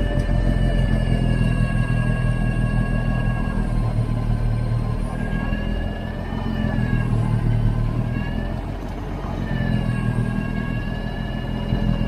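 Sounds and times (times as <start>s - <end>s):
snowblower high whine: 0.0s - 12.0s
tractor engine drone: 0.0s - 12.0s.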